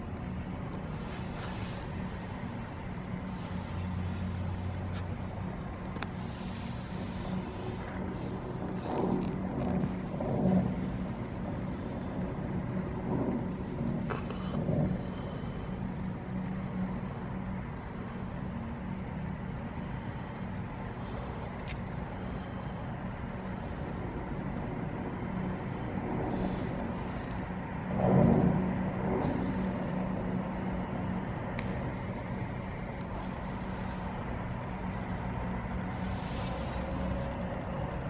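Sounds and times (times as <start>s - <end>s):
constant low hum: 0.0s - 38.0s
distant city traffic rumble: 0.0s - 38.0s.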